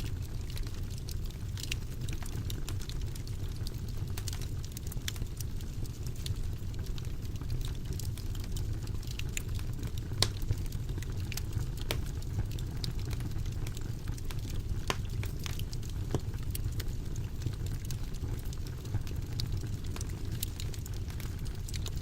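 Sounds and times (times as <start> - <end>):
fire rumbling: 0.0 - 22.0
logs crackling and popping: 0.0 - 22.0.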